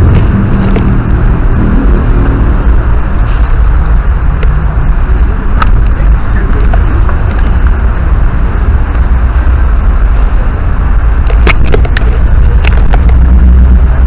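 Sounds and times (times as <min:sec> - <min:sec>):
low rumble on microphone: 0:00.0 - 0:14.0.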